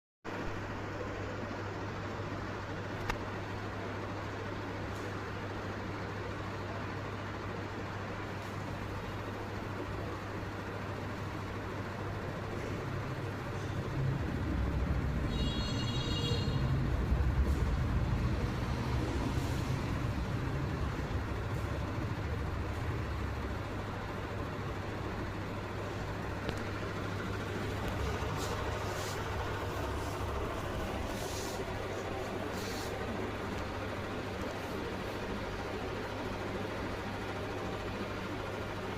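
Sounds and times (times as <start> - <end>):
road traffic rumble: 0.3 - 38.9.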